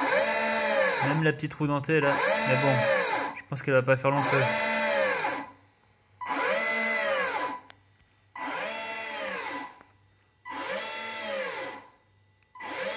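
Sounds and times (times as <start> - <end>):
electric motors whining: 0.0 - 3.5, 4.1 - 5.6, 6.2 - 12.9.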